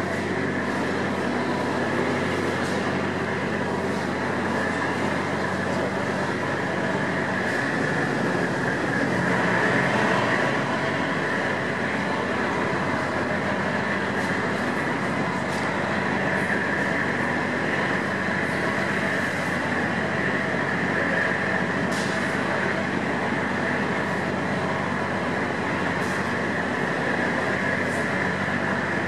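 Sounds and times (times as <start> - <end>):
diesel boat engines running: 0.0 - 29.0.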